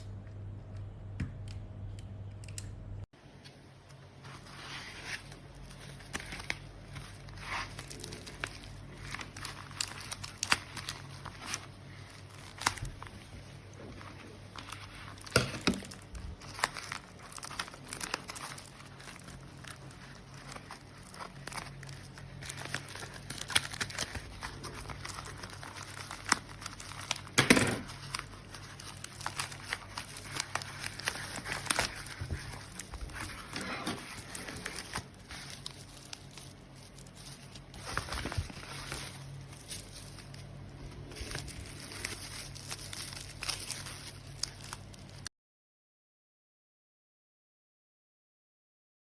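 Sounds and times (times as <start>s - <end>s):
plastic packaging crinkling: 4.2s - 45.3s.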